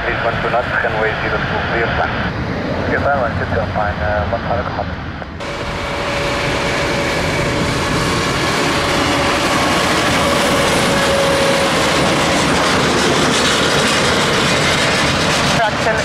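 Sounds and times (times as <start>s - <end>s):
jet engines rushing with whine: 0.0s - 16.0s.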